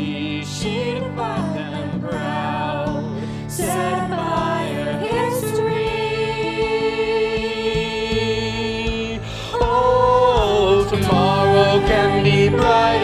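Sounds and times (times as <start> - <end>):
musical accompaniment: 0.0 - 13.0
person singing: 0.0 - 13.0.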